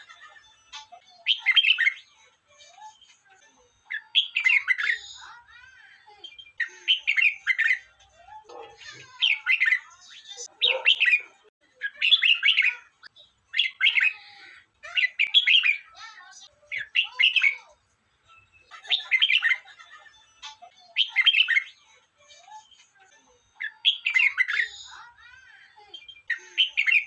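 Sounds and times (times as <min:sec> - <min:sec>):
bulbul singing warbled phrases: 0:00.8 - 0:02.9, 0:03.9 - 0:12.9, 0:13.5 - 0:17.8, 0:18.4 - 0:19.7, 0:20.8 - 0:22.7, 0:23.6 - 0:27.0.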